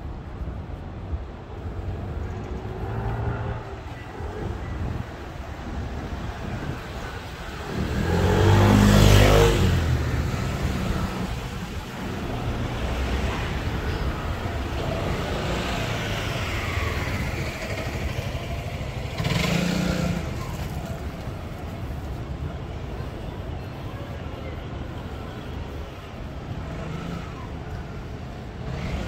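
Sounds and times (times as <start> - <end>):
steady road noise: 0.0 - 29.0.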